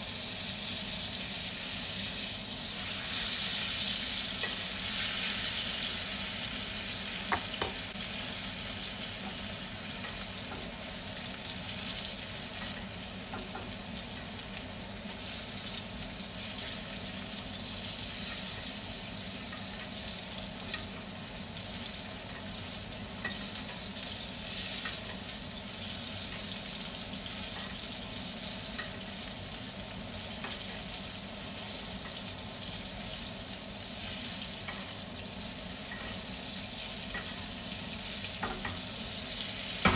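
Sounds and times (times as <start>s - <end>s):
steak sizzling in a skillet: 0.0s - 39.9s.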